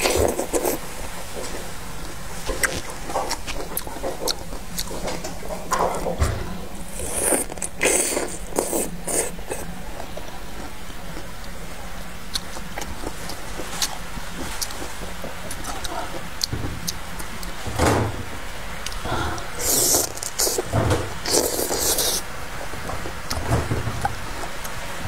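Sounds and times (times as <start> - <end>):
crunchy fruit chewing: 0.0 - 6.2, 6.8 - 17.6, 18.8 - 24.8.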